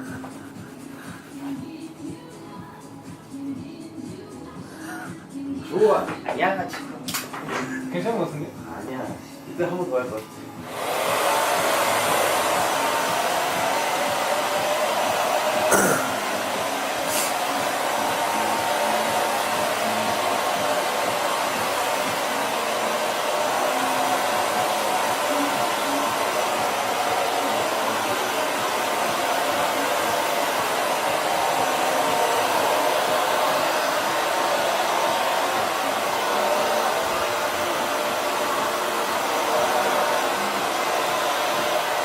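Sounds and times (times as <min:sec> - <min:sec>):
hair dryer running: 0:00.0 - 0:03.8, 0:09.7 - 0:42.0.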